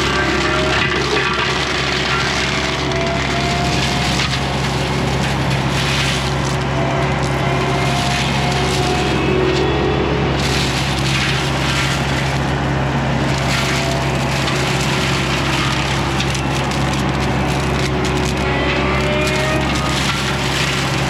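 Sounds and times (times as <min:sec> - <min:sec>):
diesel engine drone: 0:00.0 - 0:21.0
mulcher grinding and splintering wood: 0:00.0 - 0:21.0.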